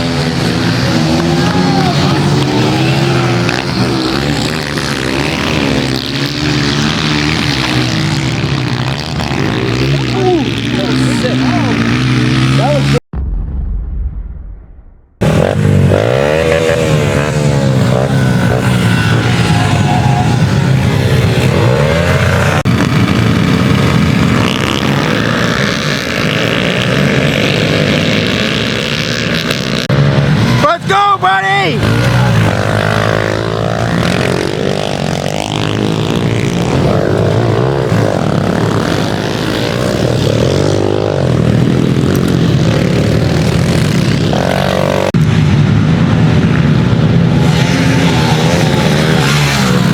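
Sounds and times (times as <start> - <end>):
pit bike engines revving: 0.0 - 13.0, 15.2 - 49.9.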